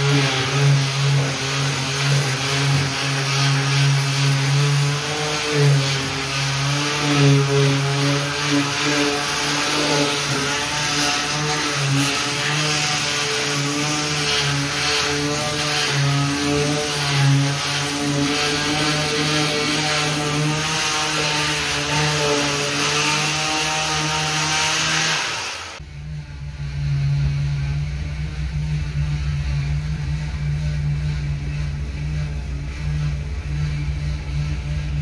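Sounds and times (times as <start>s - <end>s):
electric sander running: 0.0s - 35.0s.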